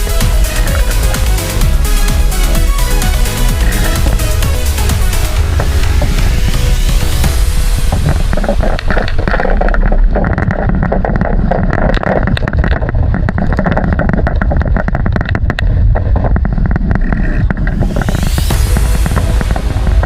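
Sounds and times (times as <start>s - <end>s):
water rushing along hull: 0.0s - 16.9s, 17.5s - 20.0s
boat fittings knocking and rattling: 0.0s - 20.0s
wind buffeting microphone: 3.3s - 20.0s.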